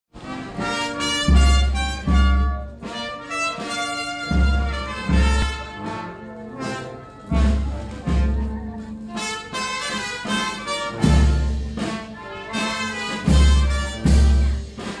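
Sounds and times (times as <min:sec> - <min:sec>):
brass band playing chords: 0:00.1 - 0:15.0.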